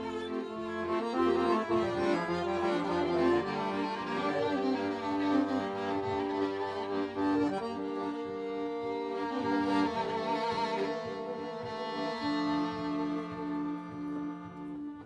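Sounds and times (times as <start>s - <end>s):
accordion: 0.0s - 15.0s
violins playing held notes: 0.0s - 15.0s.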